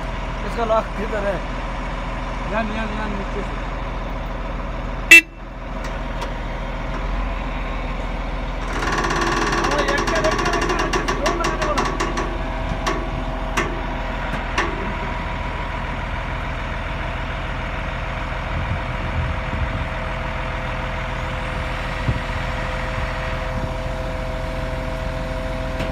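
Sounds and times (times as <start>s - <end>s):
constant whine: 0.0s - 25.9s
diesel engine running: 0.0s - 25.9s.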